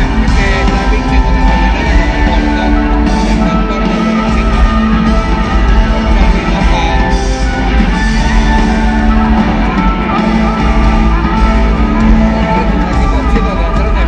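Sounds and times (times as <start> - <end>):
live rock band in arena: 0.0 - 14.0.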